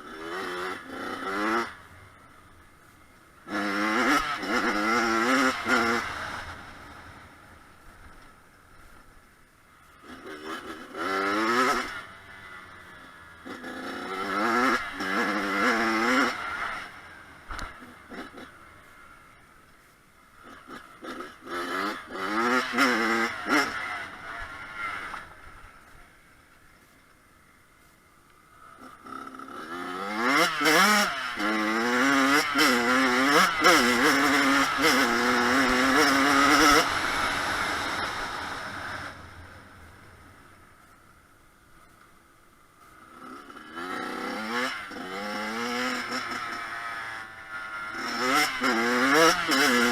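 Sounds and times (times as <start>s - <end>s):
motocross bike revving: 0.0s - 8.3s, 9.8s - 19.5s, 20.4s - 26.4s, 28.5s - 40.7s, 42.8s - 49.9s.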